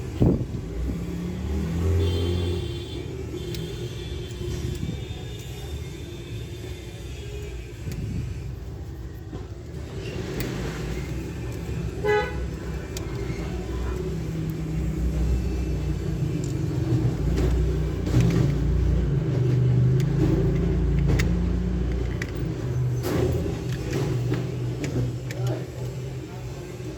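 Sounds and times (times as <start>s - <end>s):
vehicle engine rumbling: 0.0s - 26.9s.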